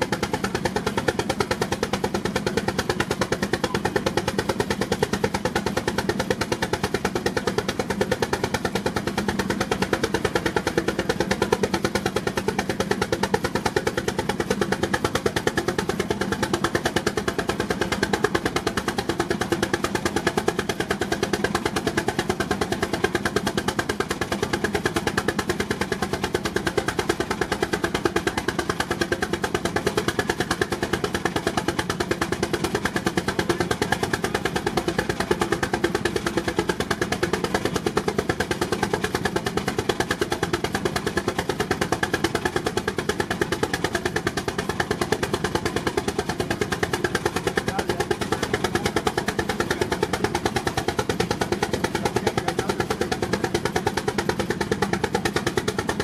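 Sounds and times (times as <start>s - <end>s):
steam engine exhaust beating: 0.0s - 56.0s.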